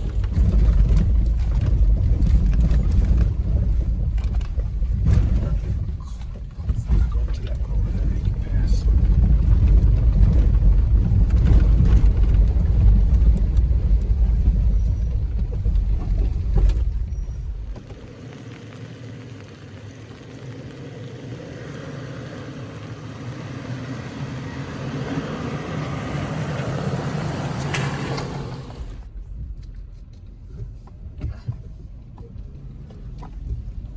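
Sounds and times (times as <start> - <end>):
vehicle driving on dirt trail: 0.0 - 33.9.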